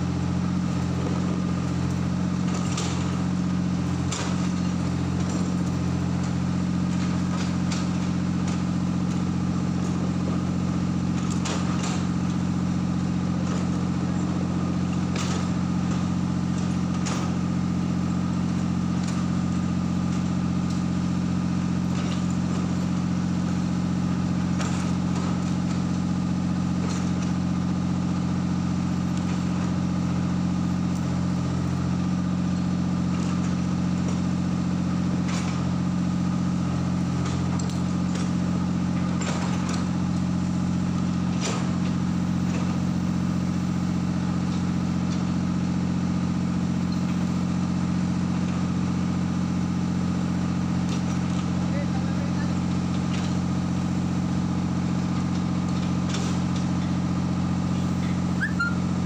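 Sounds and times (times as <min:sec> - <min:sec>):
machine engine running: 0:00.0 - 0:59.0.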